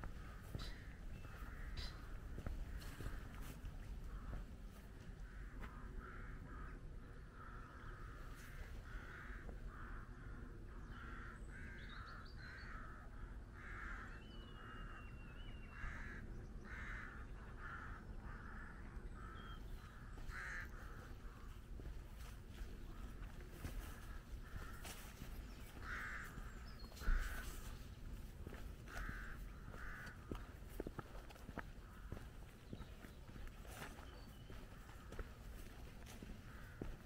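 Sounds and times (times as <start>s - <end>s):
crows cawing: 0.0s - 37.0s
low outdoor background: 0.0s - 37.0s.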